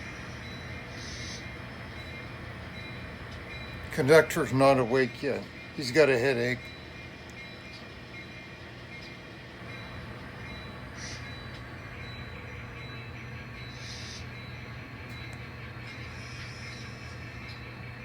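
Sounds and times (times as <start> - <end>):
model train motor humming: 0.0 - 18.0.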